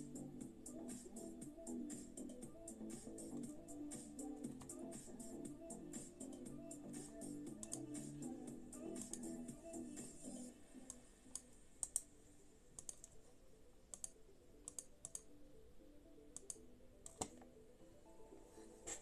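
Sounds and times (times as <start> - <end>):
faint music: 0.0 - 19.0.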